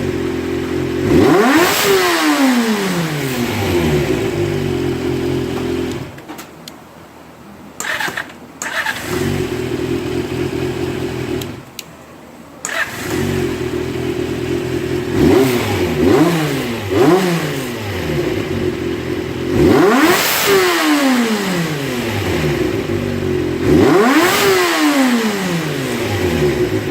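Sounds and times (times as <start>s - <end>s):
motorcycle engine idling and revving: 0.0s - 6.2s, 7.8s - 11.8s, 12.7s - 26.9s.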